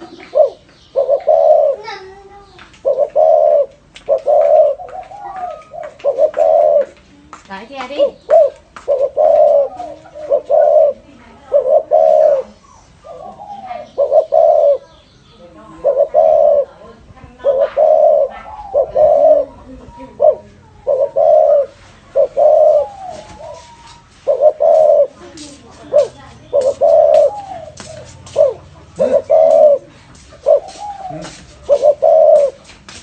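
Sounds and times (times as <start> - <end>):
dove cooing: 0.0 - 32.8.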